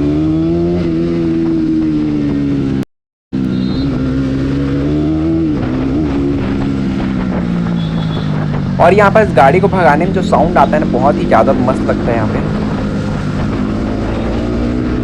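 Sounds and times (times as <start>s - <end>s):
motorcycle engine running: 0.0s - 2.8s, 3.4s - 15.0s.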